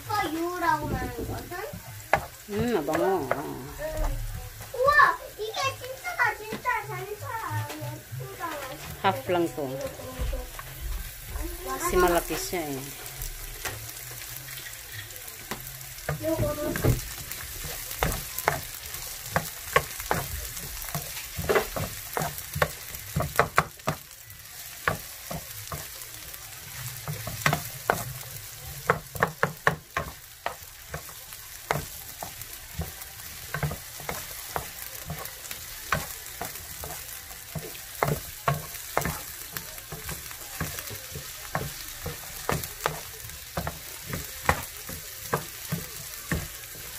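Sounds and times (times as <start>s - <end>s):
onions sizzling in hot oil: 0.0s - 46.9s.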